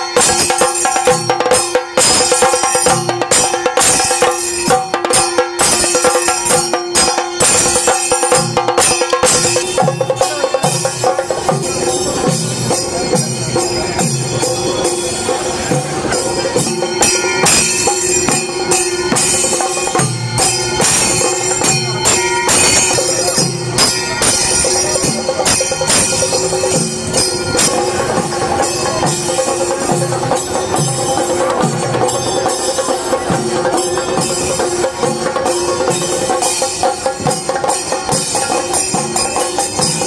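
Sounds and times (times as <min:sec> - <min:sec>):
steady held tone: 0:00.0 - 0:36.4
chenda drums playing fast rhythm: 0:00.0 - 0:40.0
hand cymbals: 0:00.0 - 0:40.0.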